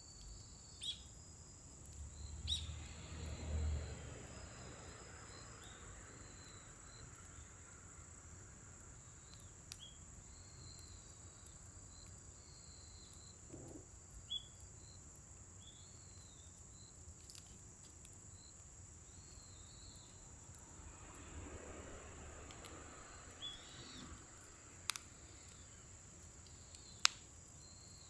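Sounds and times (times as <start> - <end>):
insects trilling: 0.1 - 28.0
short insect chirps: 0.1 - 28.0
fire popping: 4.2 - 28.0.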